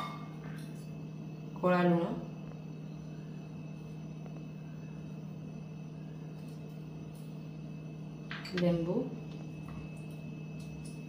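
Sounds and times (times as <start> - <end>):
steady low hum: 0.0 - 11.0
thin high whine: 0.0 - 11.0.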